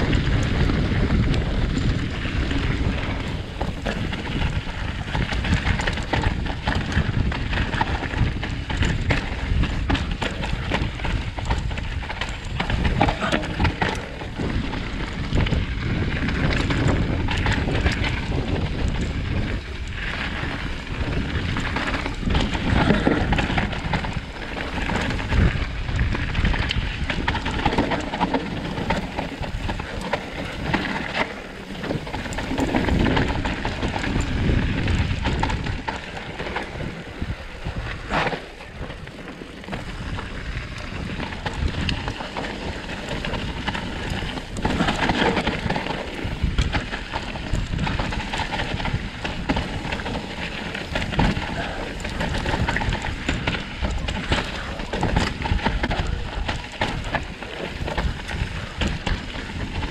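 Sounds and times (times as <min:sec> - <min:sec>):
bike rattling and knocking: 0:00.0 - 0:59.9
tyres on wet dirt and rock: 0:00.0 - 0:59.9.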